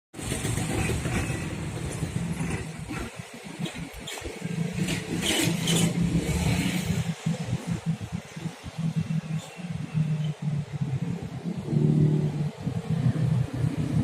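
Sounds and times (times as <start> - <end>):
vehicle engines running and revving: 0.2 - 14.0.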